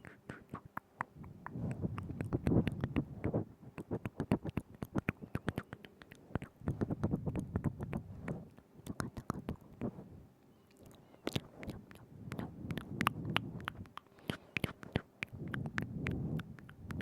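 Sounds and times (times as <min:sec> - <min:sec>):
wet lip and tongue clicks: 0:00.0 - 0:09.9, 0:10.7 - 0:17.0.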